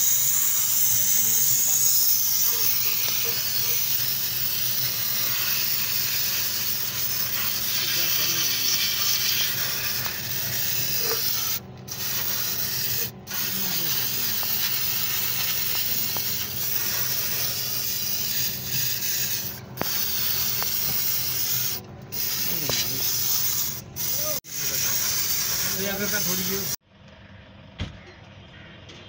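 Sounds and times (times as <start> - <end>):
spray can hissing: 0.0 - 26.8.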